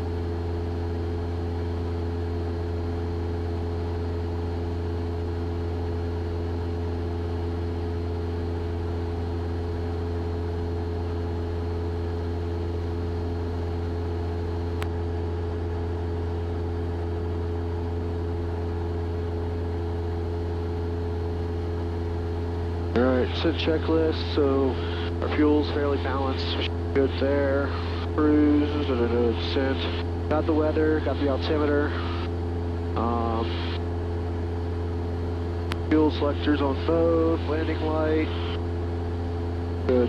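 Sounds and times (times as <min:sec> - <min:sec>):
airplane engine droning: 0:00.0 - 0:40.0.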